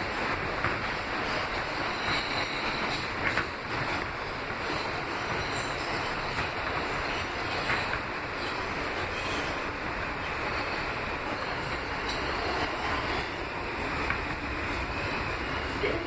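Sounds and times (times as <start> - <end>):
subway wheels roaring on rail: 0.0 - 16.0.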